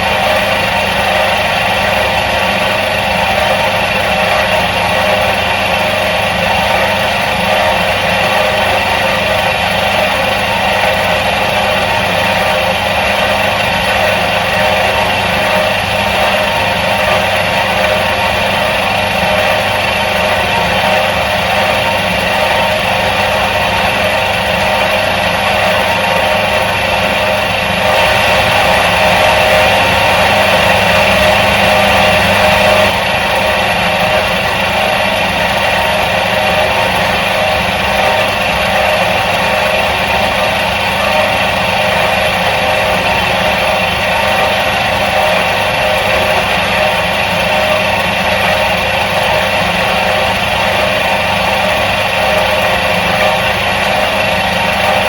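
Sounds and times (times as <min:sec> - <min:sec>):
washing machine motor humming: 0:00.0 - 0:55.0.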